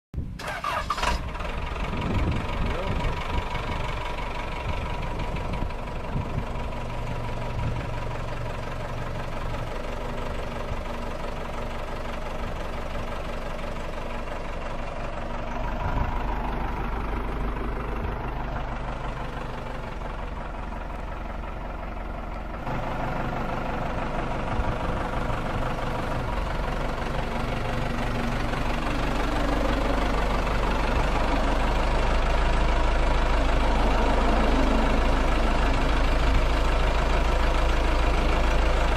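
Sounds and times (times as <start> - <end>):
backhoe diesel engine running: 0.2 - 38.9.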